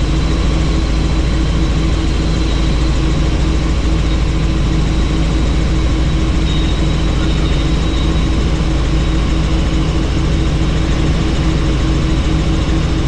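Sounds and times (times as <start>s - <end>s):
engine whine with high tone: 0.0s - 13.0s
helicopter rotor beat: 0.0s - 13.0s.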